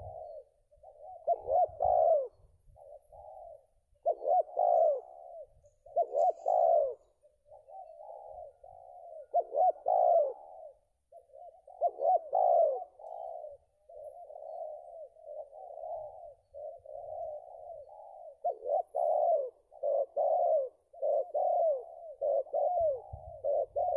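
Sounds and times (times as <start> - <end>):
dove cooing: 0.0 - 23.9.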